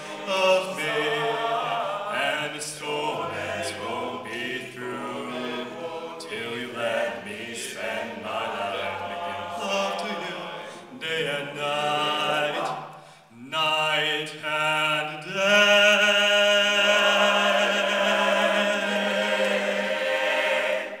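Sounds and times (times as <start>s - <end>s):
male a cappella group singing: 0.0s - 21.0s.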